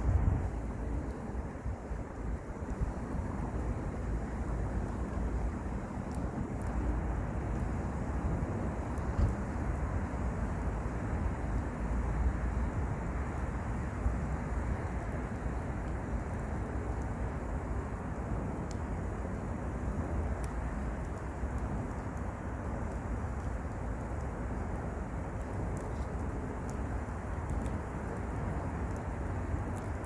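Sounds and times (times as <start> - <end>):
fire crackles: 0.0 - 30.0
rumble of wind or traffic: 0.0 - 30.0
wood fire burning: 0.0 - 30.0.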